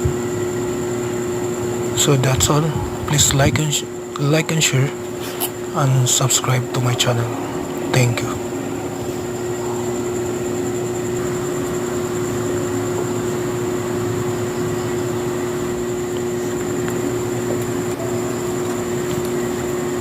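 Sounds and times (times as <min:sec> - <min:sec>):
faint high whine: 0:00.0 - 0:20.0
low mechanical hum: 0:00.0 - 0:20.0.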